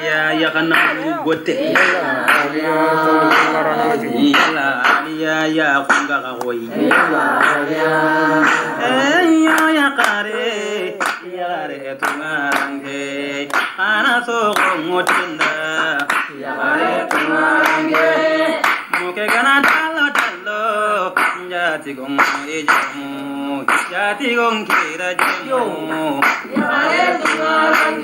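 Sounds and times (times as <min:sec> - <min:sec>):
voices singing a chant: 0:00.0 - 0:28.0
hand claps: 0:00.4 - 0:28.0.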